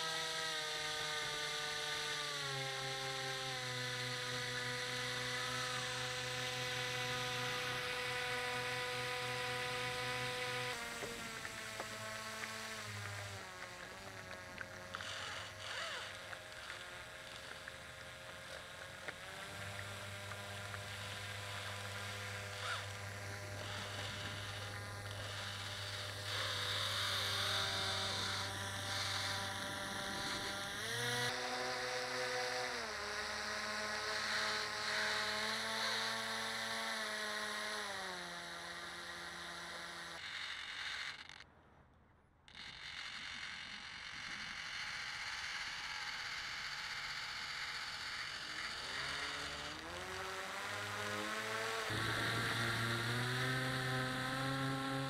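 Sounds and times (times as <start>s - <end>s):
small boat motor whining: 0.0s - 41.5s, 42.5s - 55.0s.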